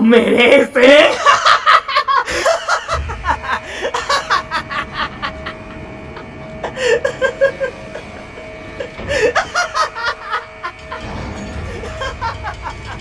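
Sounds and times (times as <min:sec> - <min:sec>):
man laughing in choppy bursts: 0:01.1 - 0:08.1, 0:08.9 - 0:11.1, 0:11.7 - 0:13.0
steady held music note: 0:02.2 - 0:13.0.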